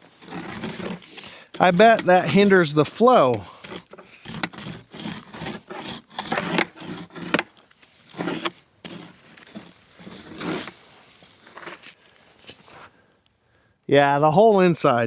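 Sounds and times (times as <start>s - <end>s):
ice and slush crunching: 0.0s - 12.9s.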